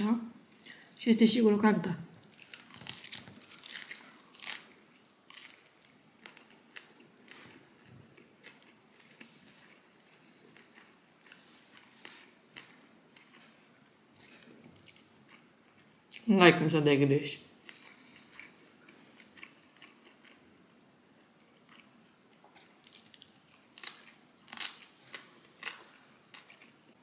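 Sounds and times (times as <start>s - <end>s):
person chewing: 2.1s - 16.2s, 17.5s - 20.6s, 21.2s - 27.0s
crispy food crunching: 2.1s - 16.3s, 17.6s - 20.6s, 21.2s - 27.0s.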